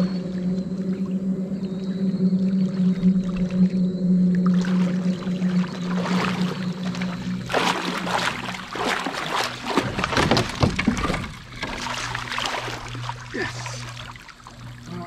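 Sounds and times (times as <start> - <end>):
steady low hum: 0.0 - 15.0
water splashing around kayak: 0.0 - 15.0.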